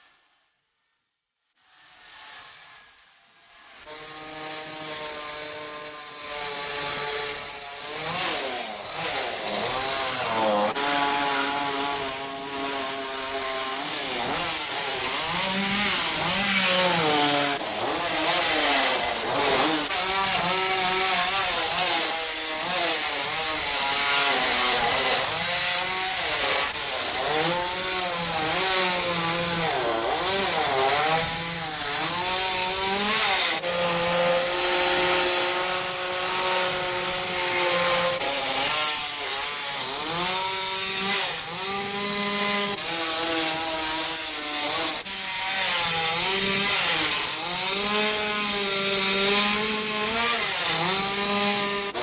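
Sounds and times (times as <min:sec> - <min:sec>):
chainsaw rasping through wood: 0:01.6 - 0:52.0
chainsaw engine revving: 0:06.5 - 0:52.0.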